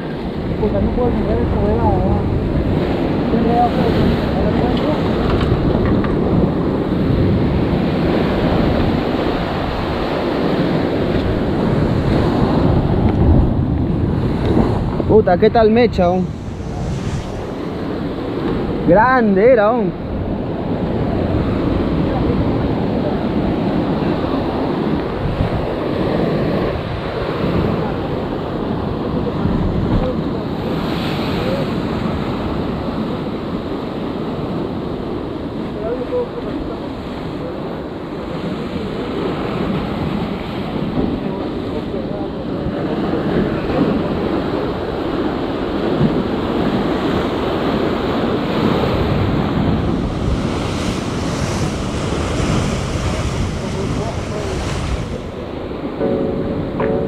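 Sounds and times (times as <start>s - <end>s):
surf washing against rocks: 0.0s - 56.0s
wind buffeting microphone: 0.0s - 57.0s.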